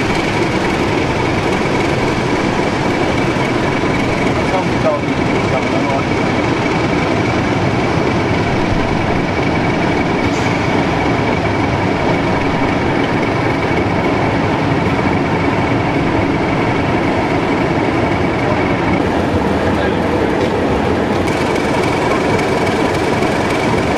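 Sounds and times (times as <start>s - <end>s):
diesel locomotive idling: 0.0s - 23.9s
thin high whine: 0.0s - 23.9s.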